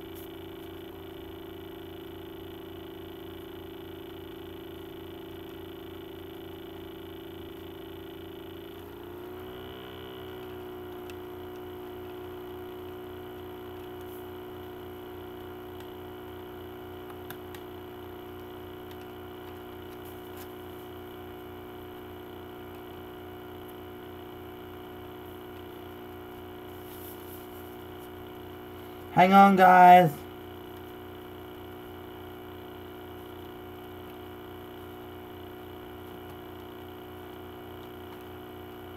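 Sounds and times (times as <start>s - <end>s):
steady background hum: 0.0s - 38.9s.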